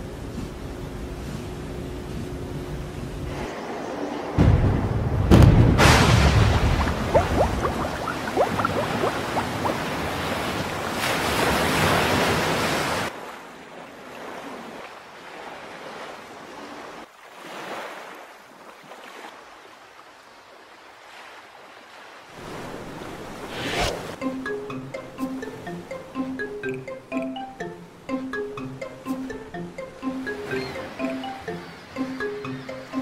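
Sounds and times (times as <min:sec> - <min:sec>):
wind: 0:00.0 - 0:33.0
rushing waves: 0:03.3 - 0:33.0
gentle waves lapping: 0:05.8 - 0:33.0.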